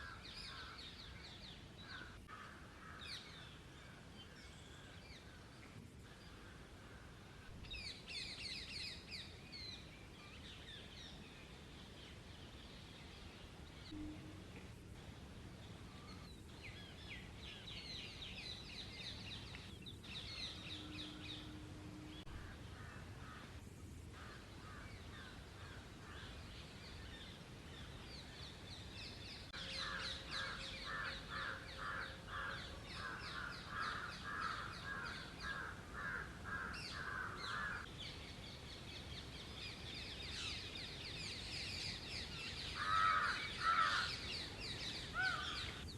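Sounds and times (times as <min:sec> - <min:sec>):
low background noise: 0:00.0 - 0:45.9.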